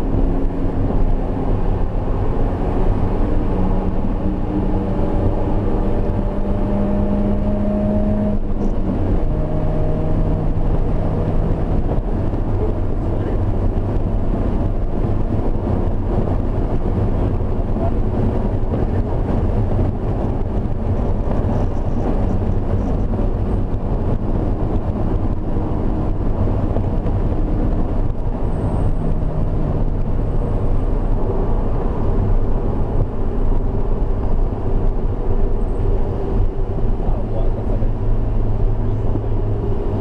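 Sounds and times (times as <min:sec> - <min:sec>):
car engine drone: 0:00.0 - 0:40.0
road and wind noise: 0:00.0 - 0:40.0.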